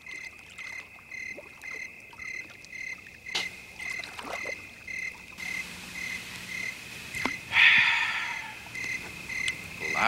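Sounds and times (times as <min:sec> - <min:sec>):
constant high insect trill: 0:00.0 - 0:10.0
crickets chirping: 0:00.0 - 0:10.0.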